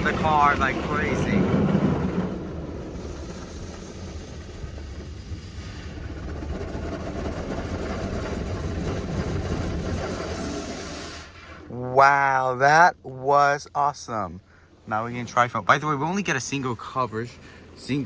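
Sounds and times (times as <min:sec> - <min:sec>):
water jets blasting car: 0:00.0 - 0:11.7, 0:14.9 - 0:18.0.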